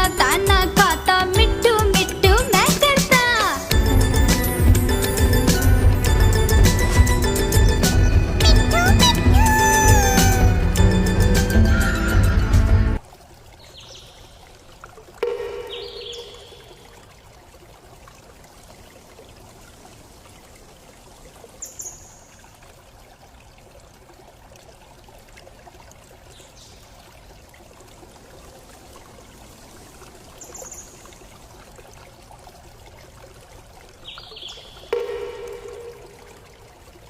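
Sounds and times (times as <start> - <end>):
running water: 0.0 - 37.0.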